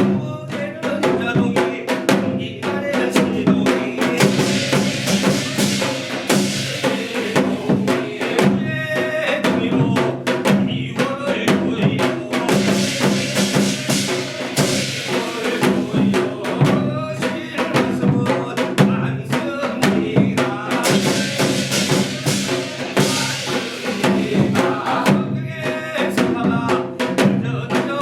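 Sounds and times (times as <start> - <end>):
fast dense drumming: 0.0 - 28.0.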